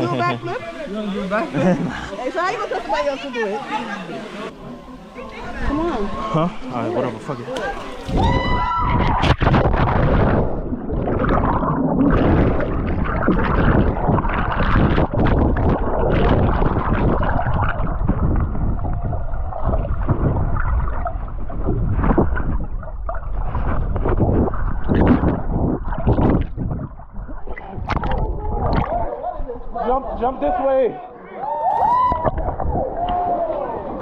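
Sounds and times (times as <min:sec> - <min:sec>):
water churning and gurgling: 0:00.0 - 0:30.3, 0:31.8 - 0:34.0.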